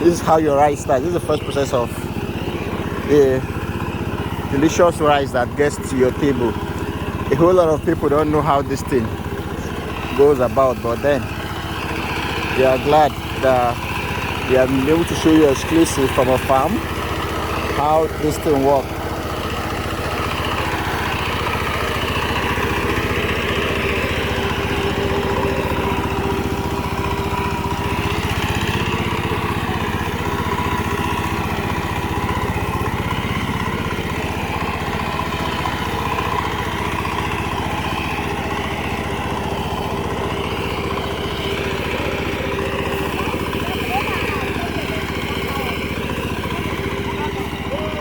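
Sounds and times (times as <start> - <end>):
small engine running steadily: 0.0 - 48.0.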